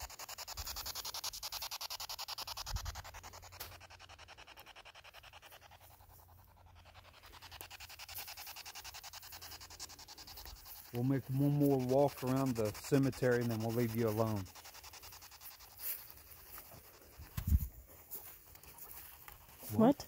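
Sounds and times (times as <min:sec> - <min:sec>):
pulsing radio static hiss: 0:00.0 - 0:20.0.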